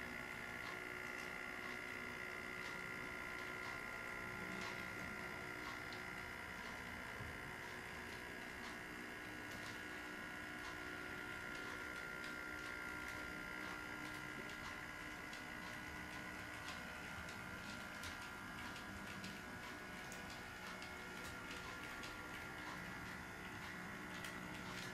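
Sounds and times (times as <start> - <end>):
steady high hum: 0.0 - 24.9.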